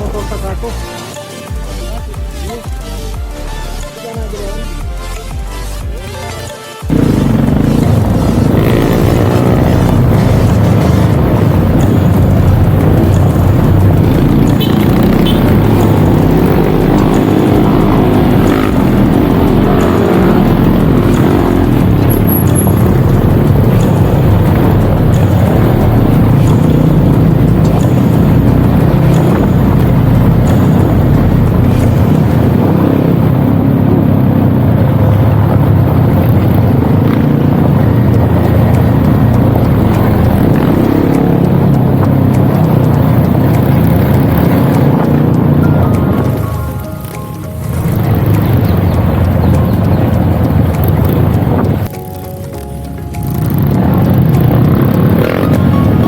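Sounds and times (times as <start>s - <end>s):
dirt bike engine running: 6.9s - 56.0s.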